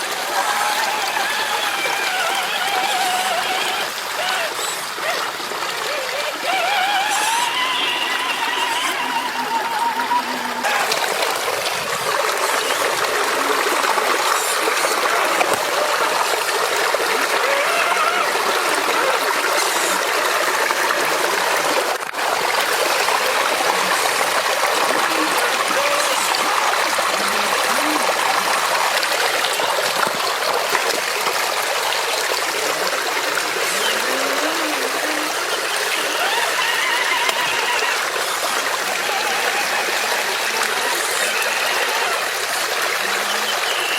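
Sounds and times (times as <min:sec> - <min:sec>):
river water trickling: 0:00.0 - 0:43.9.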